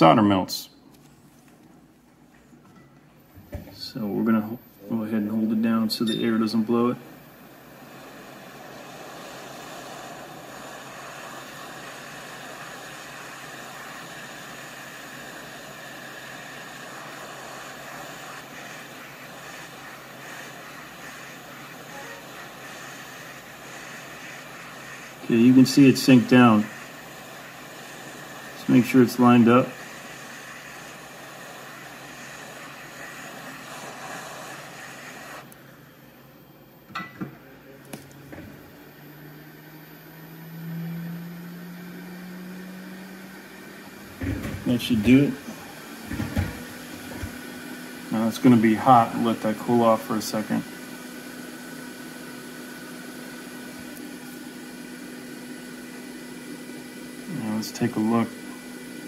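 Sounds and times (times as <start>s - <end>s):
hot air blower hissing: 0.0s - 0.7s, 3.2s - 59.0s.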